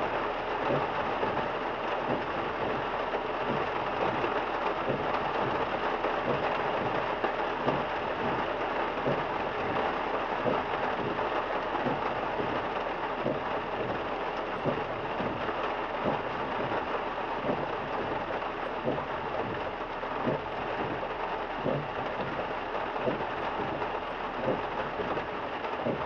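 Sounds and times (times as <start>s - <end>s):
rain on a car: 0.0s - 26.0s.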